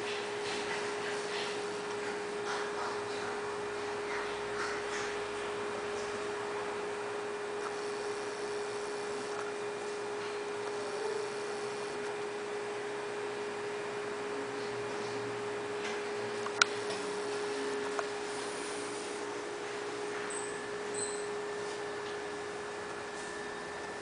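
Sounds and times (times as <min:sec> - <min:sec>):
aquarium equipment humming: 0:00.0 - 0:24.0.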